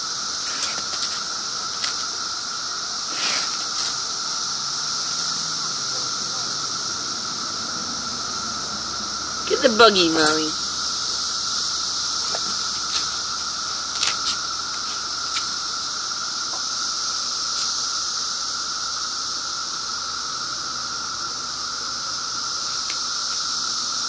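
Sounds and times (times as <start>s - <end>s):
cicadas singing: 0.0s - 24.0s.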